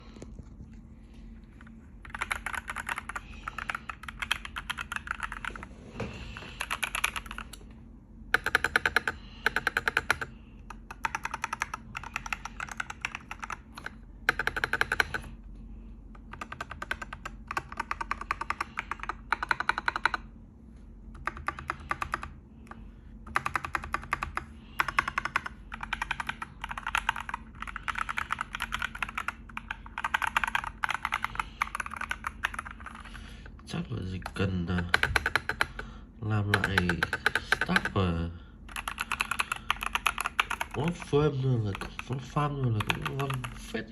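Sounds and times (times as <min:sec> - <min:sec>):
keyboard typing clicks: 0:02.0 - 0:05.6, 0:06.4 - 0:07.6, 0:08.3 - 0:15.4, 0:16.2 - 0:20.3, 0:21.2 - 0:33.1, 0:34.2 - 0:35.9, 0:36.5 - 0:38.0, 0:38.7 - 0:43.6.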